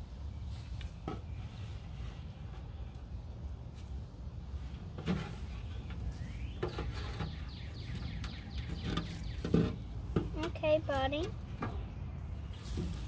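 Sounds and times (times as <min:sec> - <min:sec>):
scraping grass and soil: 0:00.4 - 0:13.0.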